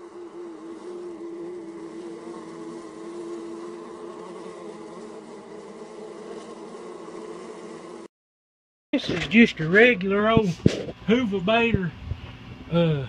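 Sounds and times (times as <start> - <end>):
honey bees buzzing: 0.0 - 8.1, 9.0 - 12.8.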